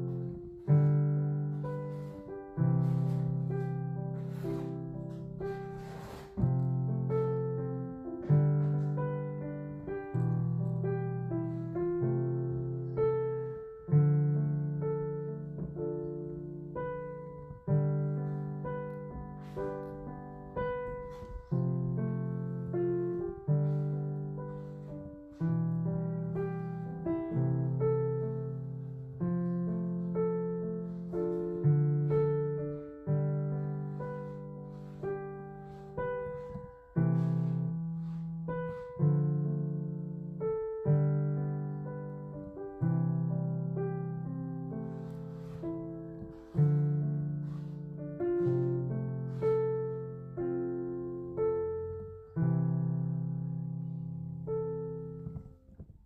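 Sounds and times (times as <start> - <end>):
slow gentle piano music: 0.0 - 56.0.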